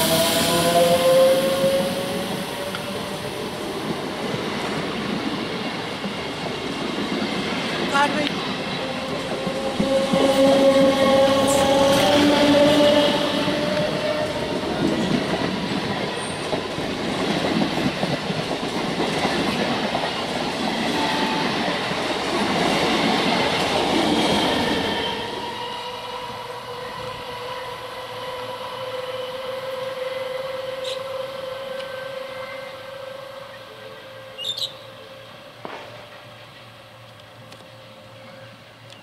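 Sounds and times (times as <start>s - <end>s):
electric train hum: 0.0s - 39.0s.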